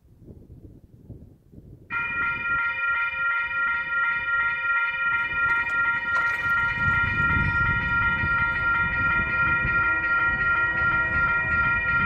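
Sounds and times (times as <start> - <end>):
crossing warning bell ringing: 1.9 - 12.0.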